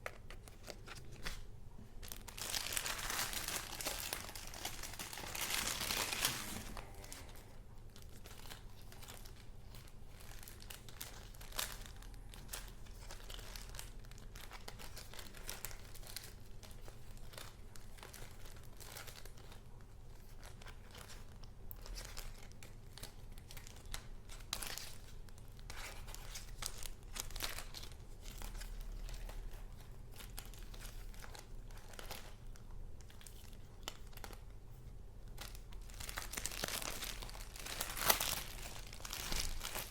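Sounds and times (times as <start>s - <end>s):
paper crinkling and rustling: 0.0s - 39.9s.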